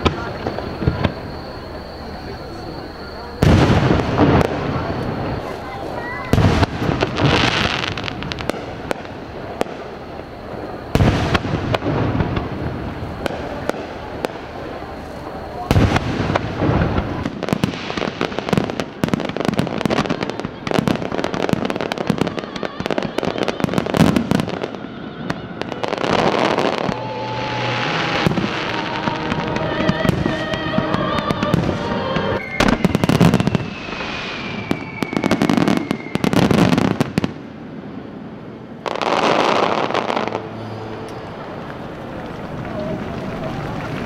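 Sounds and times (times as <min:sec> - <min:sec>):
falling firework whistle: 0:00.0 - 0:37.6, 0:38.6 - 0:44.0
fireworks bangs and crackle: 0:00.0 - 0:44.0.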